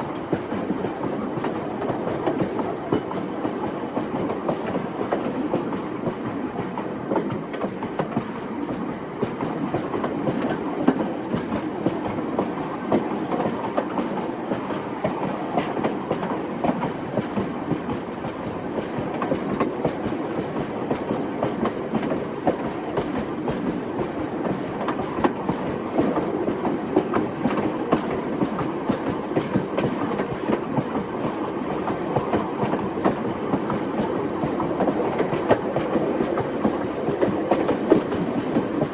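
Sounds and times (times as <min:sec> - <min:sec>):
train rumbling on track: 0:00.0 - 0:38.9.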